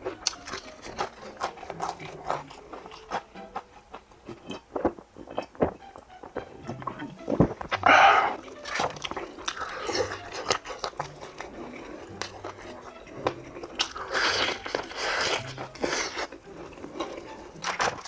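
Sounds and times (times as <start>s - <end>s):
crunchy chewing of fried chicken: 0.0s - 18.0s.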